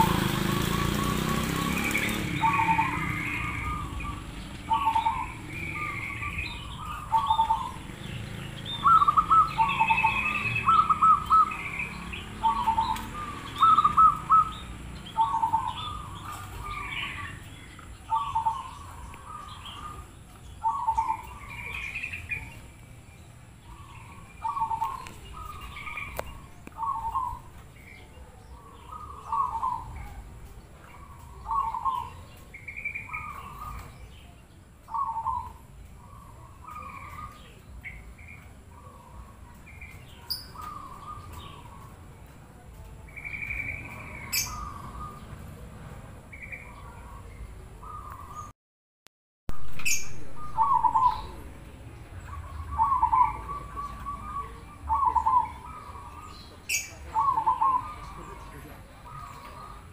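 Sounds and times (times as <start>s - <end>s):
doves cooing: 0.0s - 34.3s, 34.9s - 48.5s, 49.5s - 59.9s
bird chirps: 0.0s - 45.7s, 46.3s - 48.5s, 49.5s - 59.9s.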